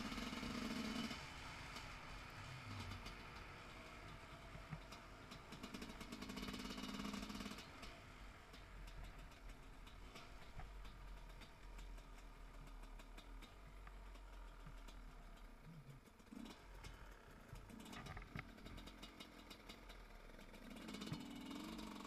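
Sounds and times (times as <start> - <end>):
motorcycle engine running: 0.0 - 22.0
sharp clicks and clatter: 0.1 - 22.0.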